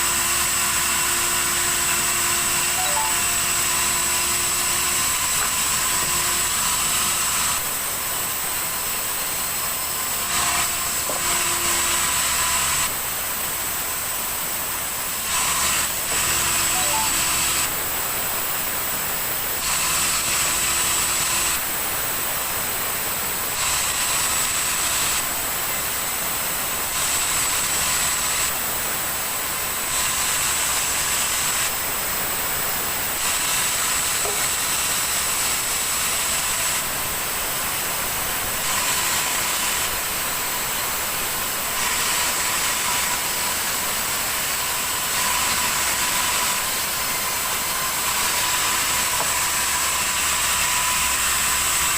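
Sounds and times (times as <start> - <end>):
saw cutting through log: 0.0 - 51.9.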